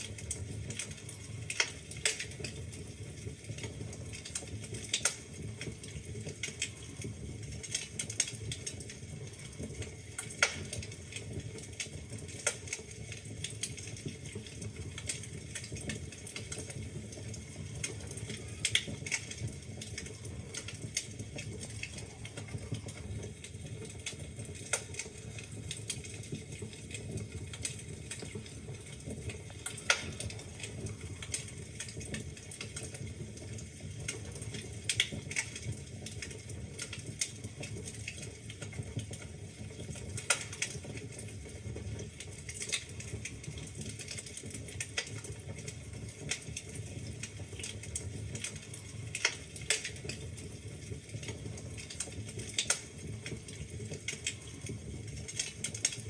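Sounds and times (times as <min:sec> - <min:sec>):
logs crackling and popping: 0:00.0 - 0:56.0
wood fire burning: 0:00.0 - 0:56.0.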